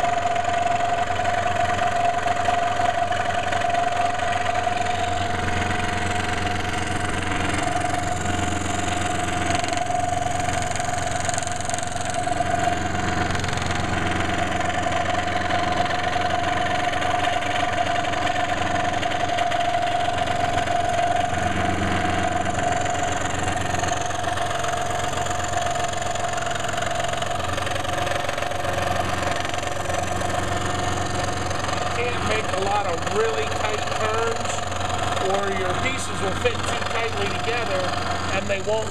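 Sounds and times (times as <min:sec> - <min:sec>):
electric saw cutting wood: 0:00.0 - 0:38.9.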